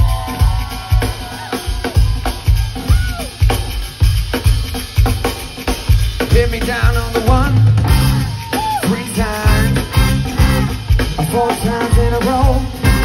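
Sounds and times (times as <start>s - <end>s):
drum kit steady beat: 0.0s - 13.0s
live pop band playing: 0.0s - 13.0s.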